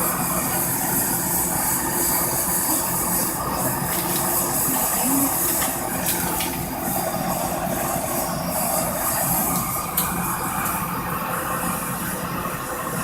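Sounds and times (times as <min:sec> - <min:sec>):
gas flame hissing: 0:00.0 - 0:13.0.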